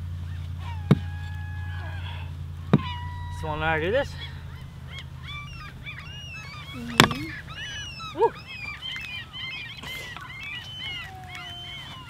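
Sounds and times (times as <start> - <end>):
birds chirping and honking: 0.0 - 12.0.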